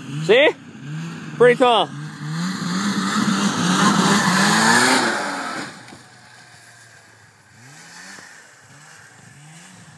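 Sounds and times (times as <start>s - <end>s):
snowmobile engine revving: 0.0s - 9.9s.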